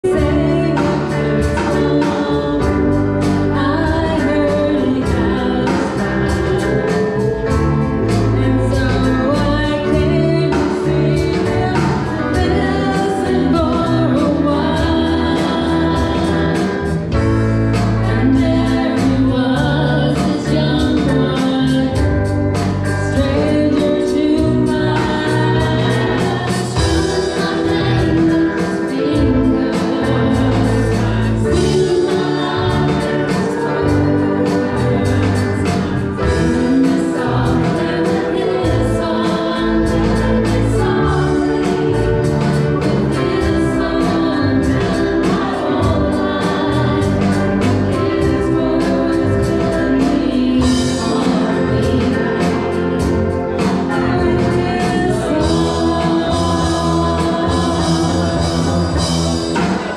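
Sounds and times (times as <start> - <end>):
electric guitars: 0.0 - 59.9
keyboard: 0.0 - 59.9
live rock band: 0.0 - 59.9
person singing: 0.0 - 59.9.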